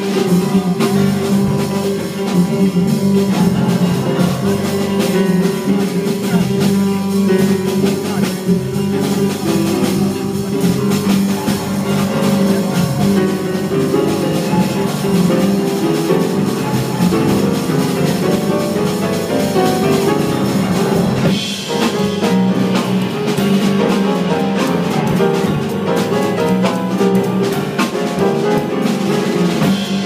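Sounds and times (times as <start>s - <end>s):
jazz band playing: 0.0s - 30.0s.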